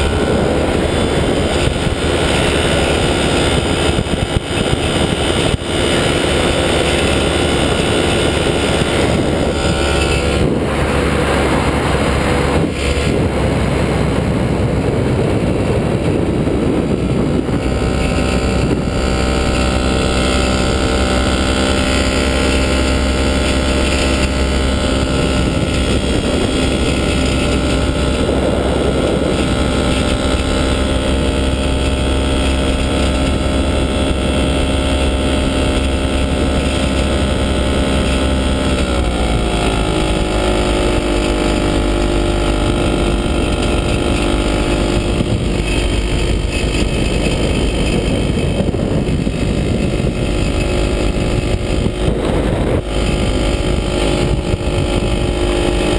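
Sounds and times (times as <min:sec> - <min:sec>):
light aircraft engine in flight: 0:00.0 - 0:55.9.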